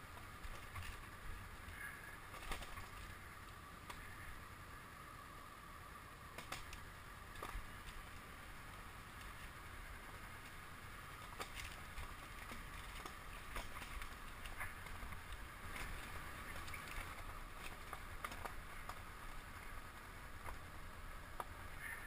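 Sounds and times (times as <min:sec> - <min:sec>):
tyres crunching on gravel: 0:00.0 - 0:04.3, 0:06.3 - 0:20.7
gravel clicks: 0:00.0 - 0:22.0.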